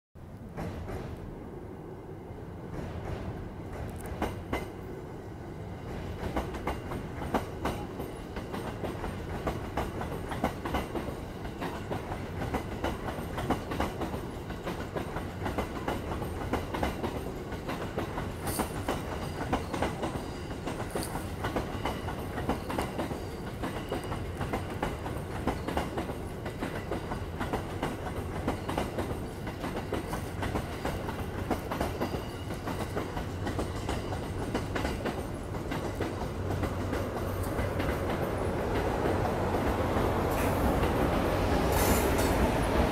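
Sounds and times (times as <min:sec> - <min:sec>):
train cars rumbling past: 0:00.2 - 0:42.9
wheels clacking over rail joints: 0:05.9 - 0:42.9.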